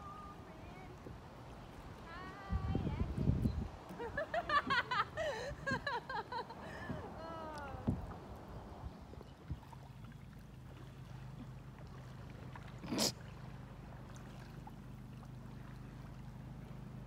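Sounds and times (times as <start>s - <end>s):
paddling on lake water: 0.0s - 17.0s
rush of water: 0.0s - 17.0s
water lapping: 0.0s - 17.0s.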